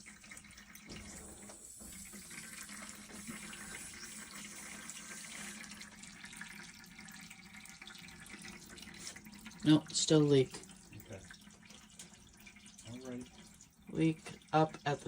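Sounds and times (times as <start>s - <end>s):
water hissing from leaking pipe: 0.0s - 15.0s.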